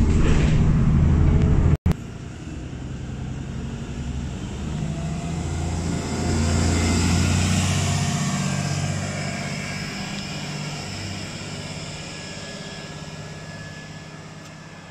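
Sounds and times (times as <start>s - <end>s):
bus engine with raspy exhaust: 0.0s - 14.9s.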